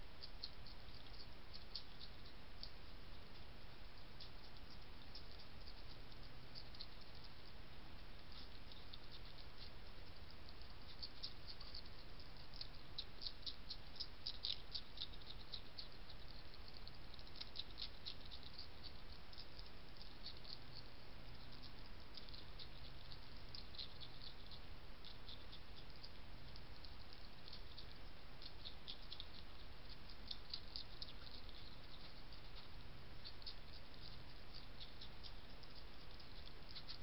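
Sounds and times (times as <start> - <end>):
hedgehog crunching biscuits: 0.2 - 37.0.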